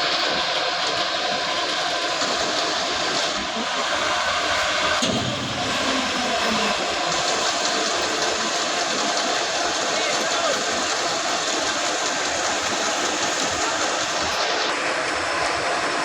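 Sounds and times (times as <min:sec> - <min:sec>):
constant rushing noise: 0:00.0 - 0:16.0
vehicle engine running: 0:00.0 - 0:16.0.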